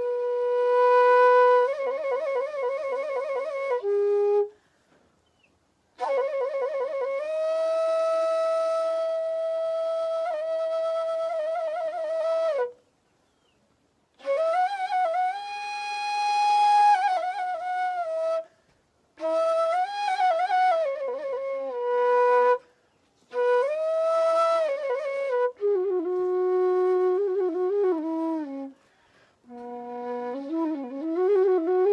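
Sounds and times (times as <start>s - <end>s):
solo flute folk melody: 0.0s - 31.9s.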